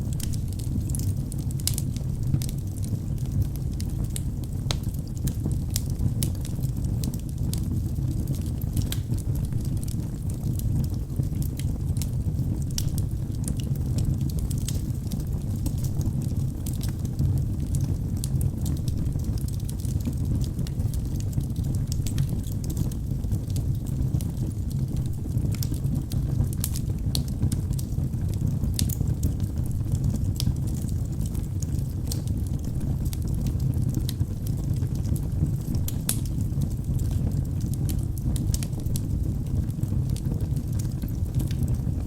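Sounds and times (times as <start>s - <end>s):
fire crackling and popping: 0.0s - 42.0s
low rush of flames: 0.0s - 42.0s.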